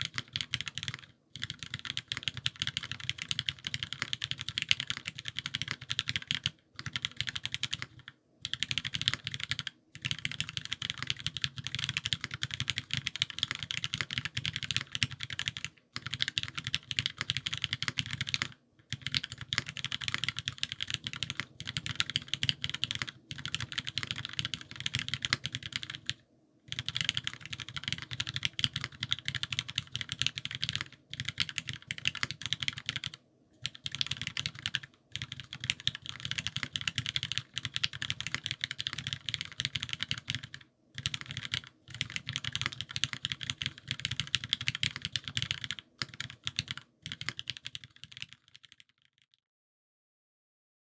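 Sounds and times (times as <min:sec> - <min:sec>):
fast typing on mechanical keyboard: 0:00.0 - 0:49.3.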